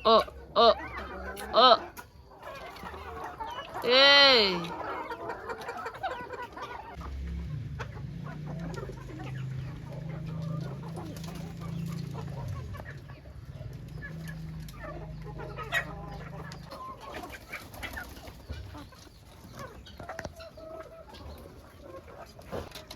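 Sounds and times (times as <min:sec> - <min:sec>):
chickens clucking: 0:00.0 - 0:22.9.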